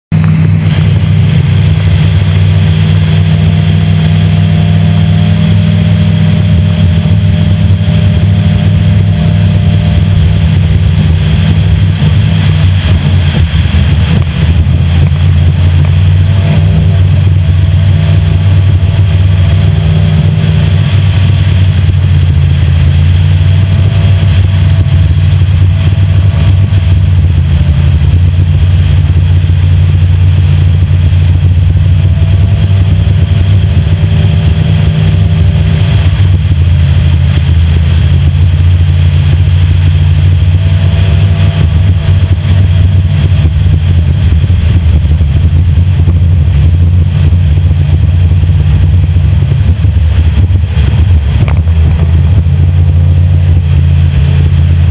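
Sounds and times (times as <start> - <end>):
race boat engine at high revs: 0.0 - 54.9.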